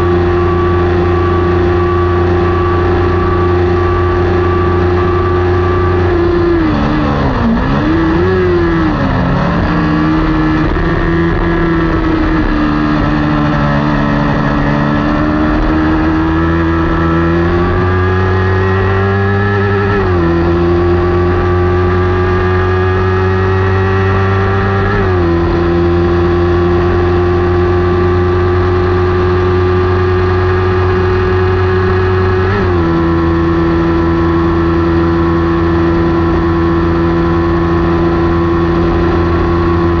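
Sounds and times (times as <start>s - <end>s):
motorcycle engine revving hard: 0.0s - 40.0s.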